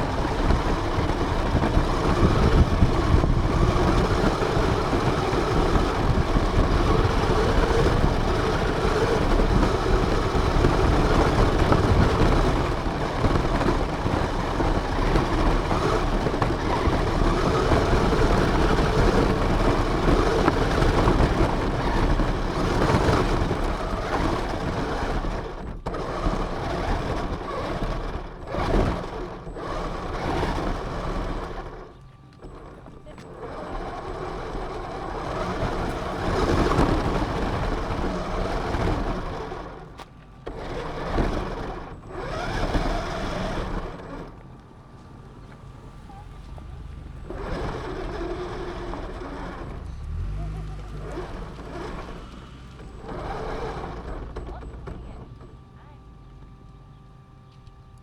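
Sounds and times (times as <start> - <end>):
rc car motor noise: 0.0 - 58.0
wheels rumbling over ground: 0.0 - 58.0.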